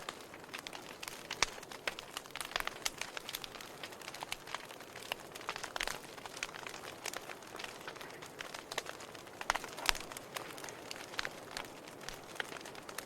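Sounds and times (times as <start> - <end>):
fire crackling in fireplace: 0.0 - 13.0.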